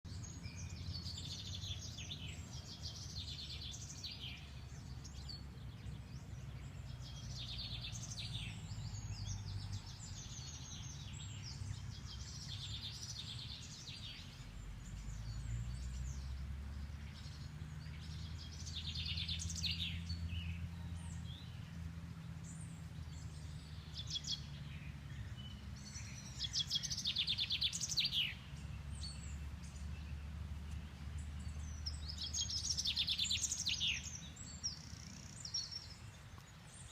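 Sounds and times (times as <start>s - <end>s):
songbirds singing and chirping: 0.0s - 36.9s.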